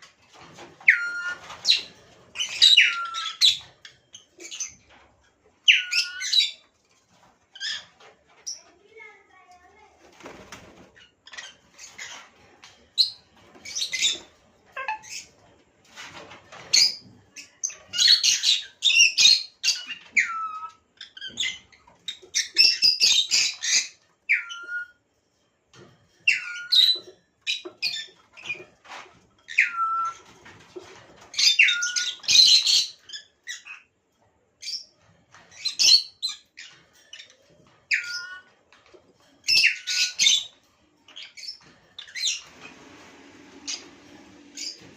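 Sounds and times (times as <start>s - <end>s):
lovebirds chirping and squawking: 0.1s - 9.1s, 10.1s - 25.0s, 25.8s - 34.0s, 34.6s - 44.9s.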